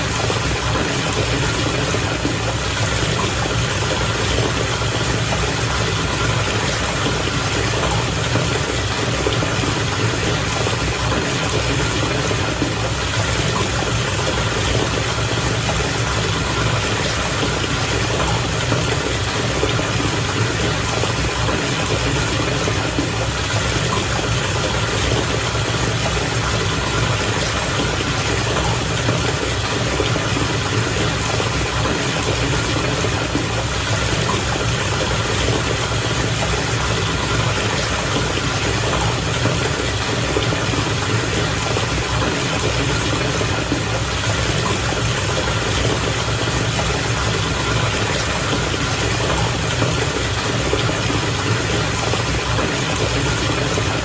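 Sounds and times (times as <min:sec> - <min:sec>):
bath water bubbling: 0:00.0 - 0:54.0.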